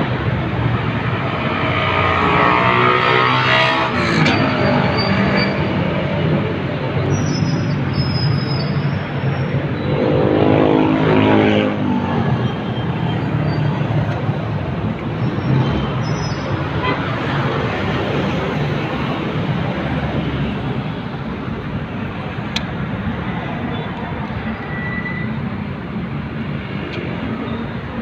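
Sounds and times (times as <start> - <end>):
vehicle traffic noise: 0.0 - 28.0.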